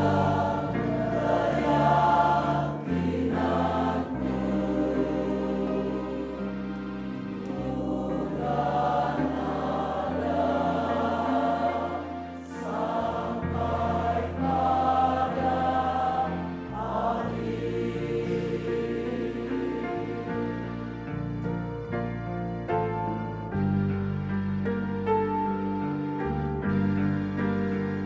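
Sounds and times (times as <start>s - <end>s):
choir singing a hymn: 0.0s - 22.5s
low sustained accompaniment: 0.0s - 28.0s.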